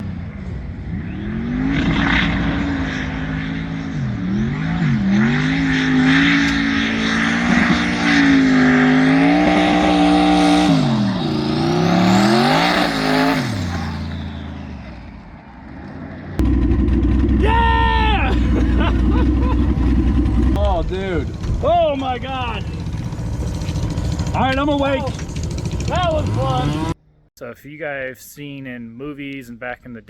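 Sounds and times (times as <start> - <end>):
racing engine revving: 0.0 - 27.0.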